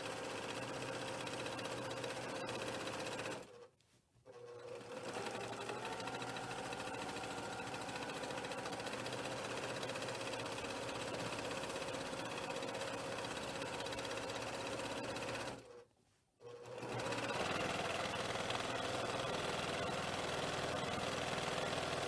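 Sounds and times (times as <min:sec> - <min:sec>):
sewing machine running: 0:00.0 - 0:03.7, 0:04.3 - 0:15.8, 0:16.4 - 0:22.0.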